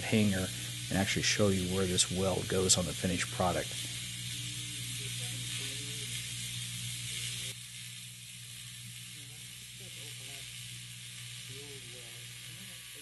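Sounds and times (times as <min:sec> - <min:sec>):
welding arc buzzing and hissing: 0:00.0 - 0:13.0.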